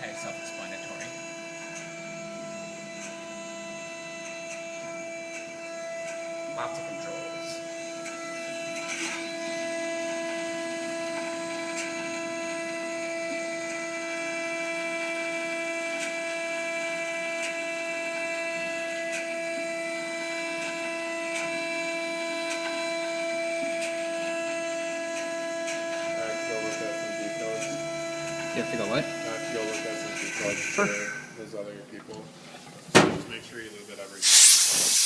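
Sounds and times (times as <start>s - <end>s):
milling machine spindle whine: 0.0s - 15.8s, 17.9s - 31.4s, 33.8s - 35.0s.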